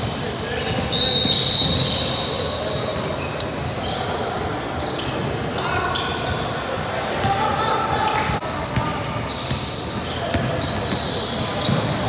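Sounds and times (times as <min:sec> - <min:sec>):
echoing crowd chatter: 0:00.0 - 0:12.0
sneakers squeaking on court: 0:00.0 - 0:12.0.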